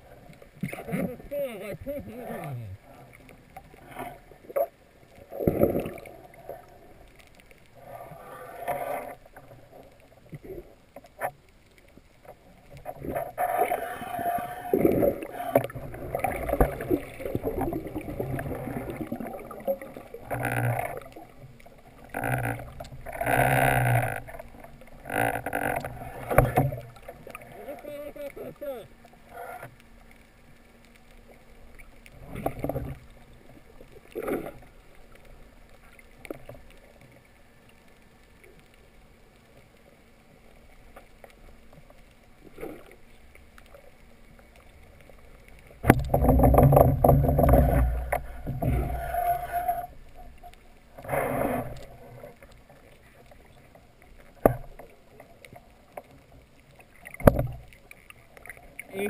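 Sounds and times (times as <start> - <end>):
underwater rushing water: 0.0 - 59.0.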